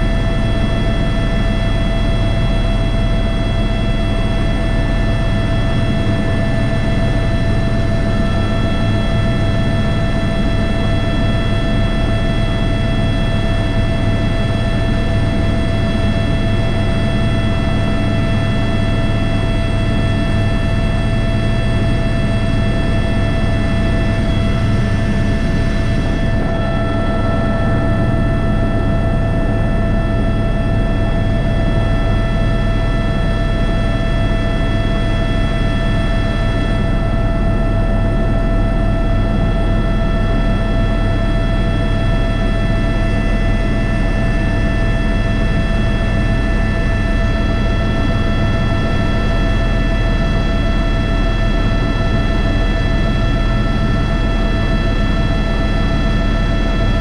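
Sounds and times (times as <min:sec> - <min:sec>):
helicopter rotor and turbine drone: 0:00.0 - 0:57.0
high-pitched engine whine: 0:00.0 - 0:57.0.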